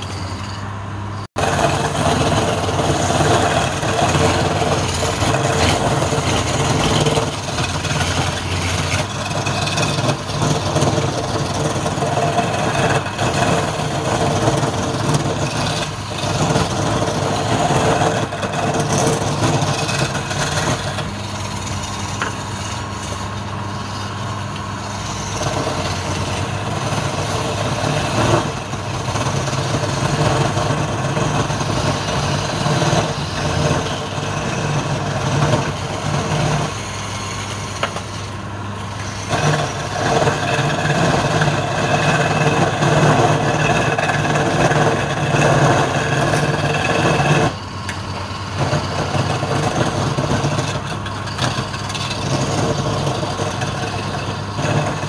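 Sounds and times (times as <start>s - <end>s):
chisel scraping spinning wood: 0.0s - 55.0s
lathe motor running: 0.0s - 55.0s.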